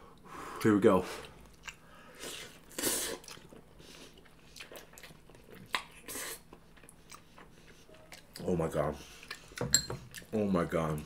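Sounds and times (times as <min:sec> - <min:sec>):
soft wet chewing: 0:01.2 - 0:10.4.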